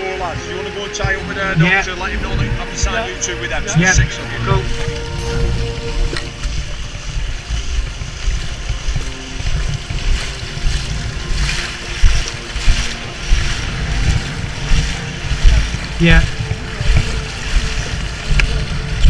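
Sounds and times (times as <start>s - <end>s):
water sloshing and splashing: 0.0s - 19.0s
wind buffeting microphone: 0.0s - 19.0s.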